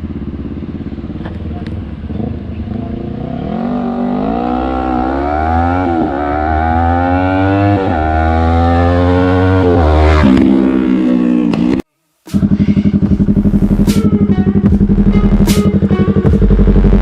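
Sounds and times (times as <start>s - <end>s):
motorcycle engine revving: 0.0s - 11.8s, 12.4s - 17.0s.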